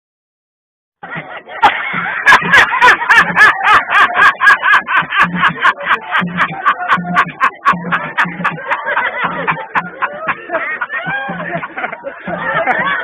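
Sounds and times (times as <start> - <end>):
man laughing loudly: 1.0 - 13.0.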